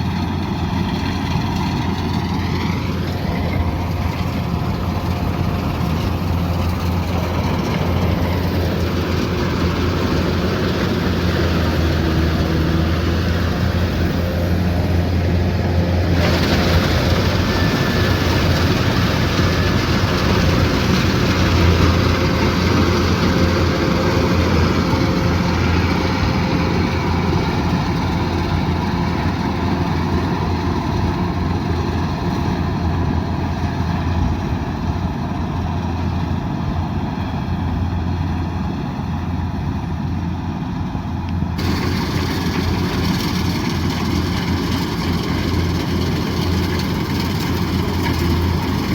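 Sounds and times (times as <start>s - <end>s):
diesel engine deep hum: 0.0s - 48.9s.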